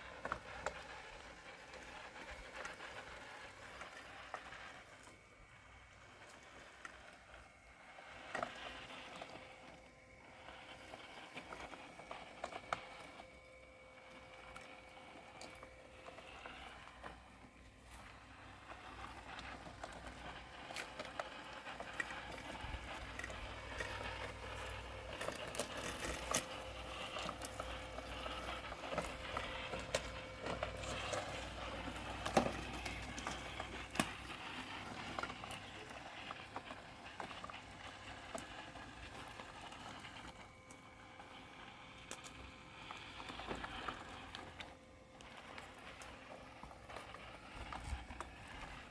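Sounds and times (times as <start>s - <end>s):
robotic mower motor hum: 0.0s - 48.9s
scattered clicks and crackles: 0.0s - 48.9s.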